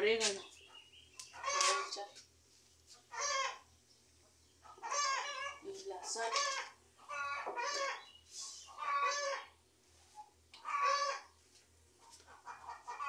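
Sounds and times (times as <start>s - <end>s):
chickens squawking: 0.2s - 2.1s, 2.9s - 13.0s.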